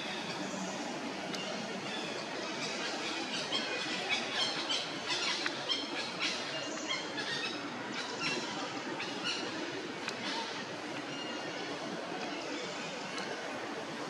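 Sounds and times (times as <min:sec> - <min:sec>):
steady noisy background: 0:00.0 - 0:14.0.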